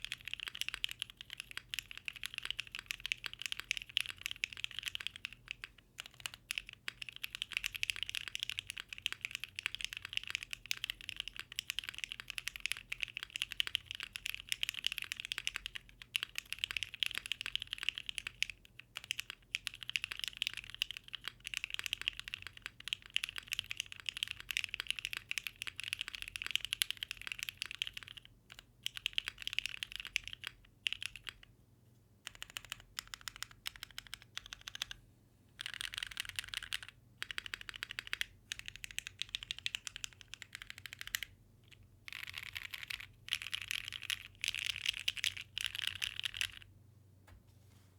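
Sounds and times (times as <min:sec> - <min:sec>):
fast typing on mechanical keyboard: 0:00.0 - 0:31.5, 0:32.3 - 0:35.0, 0:35.6 - 0:46.6.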